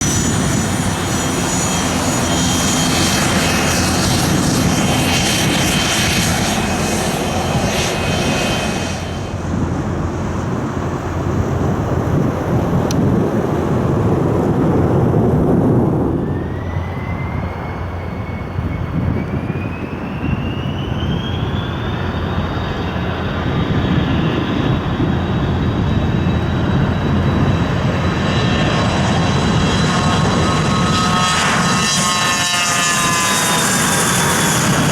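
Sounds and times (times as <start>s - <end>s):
jet engines roaring: 0.0s - 34.9s
rising jet whine: 0.0s - 34.9s.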